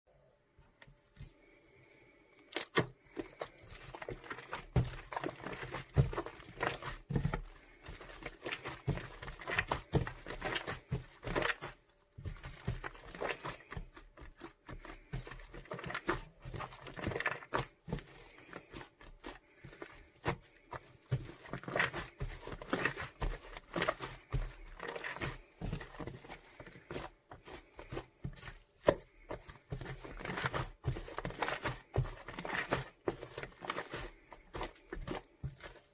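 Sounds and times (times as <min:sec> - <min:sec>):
shaving foam squishing by hand: 0:02.4 - 0:35.9.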